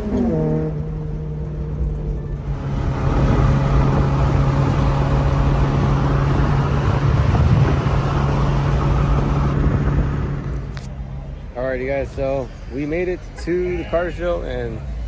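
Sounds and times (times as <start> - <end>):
car engine drone: 0.0 - 15.0
road and wind noise: 0.0 - 15.0.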